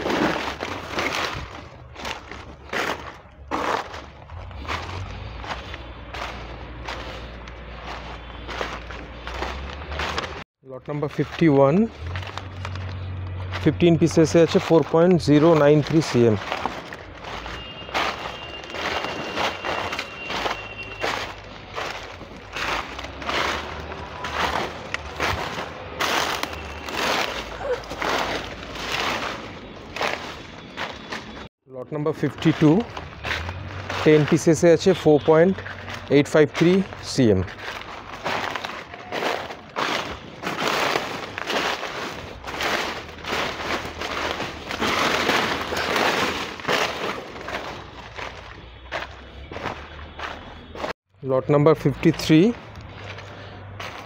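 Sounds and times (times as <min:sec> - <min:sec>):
footsteps crunching dry leaves: 0:00.0 - 0:31.5, 0:32.1 - 0:51.0, 0:51.9 - 0:54.0.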